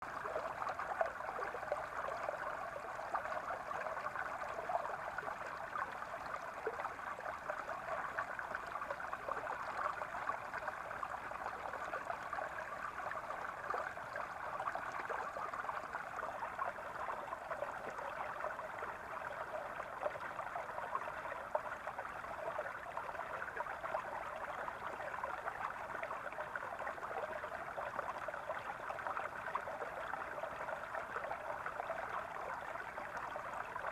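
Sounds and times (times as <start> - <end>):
brook gurgling over stones: 0.0 - 33.9.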